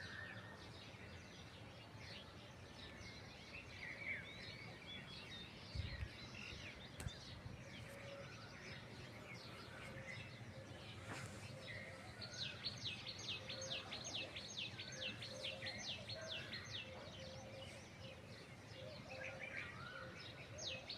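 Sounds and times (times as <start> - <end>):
bird singing downward-sliding notes: 0.0 - 20.9
birds chirping: 0.0 - 20.9.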